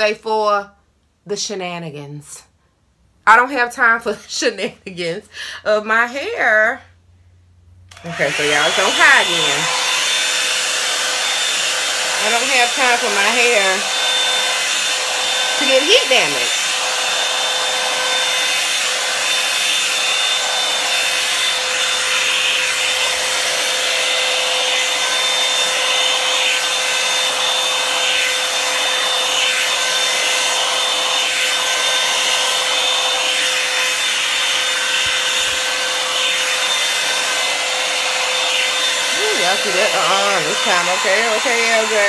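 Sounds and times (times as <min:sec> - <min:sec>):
hair dryer running: 0:07.9 - 0:42.0.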